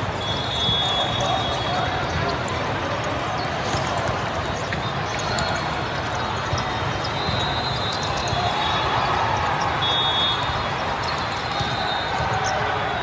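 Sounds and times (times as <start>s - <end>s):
volleyballs bouncing on court: 0.0s - 13.0s.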